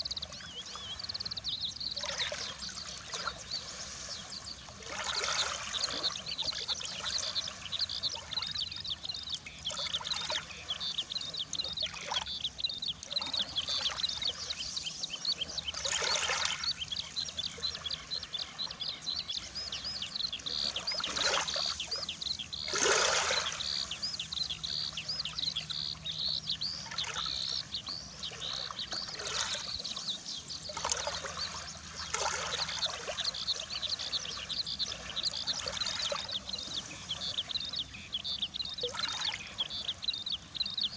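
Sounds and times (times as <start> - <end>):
small birds twittering: 0.0 - 40.9.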